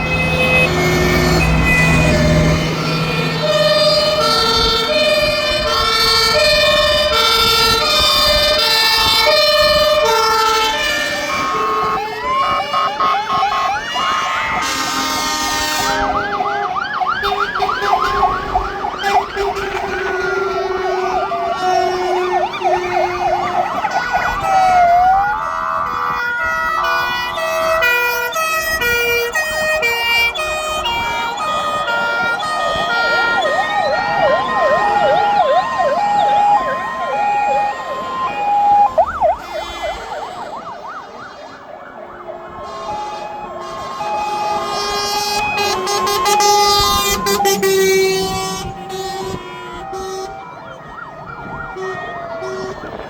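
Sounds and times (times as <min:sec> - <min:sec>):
fire engine sirens: 0:00.0 - 0:53.0.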